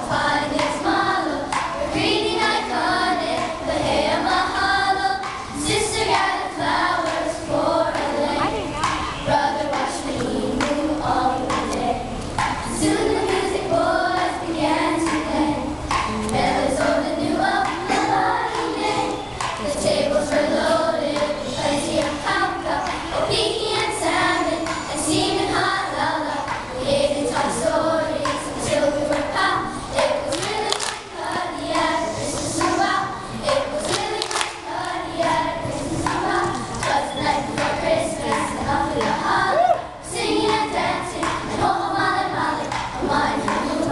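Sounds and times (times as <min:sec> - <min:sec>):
children singing together: 0:00.0 - 0:43.9.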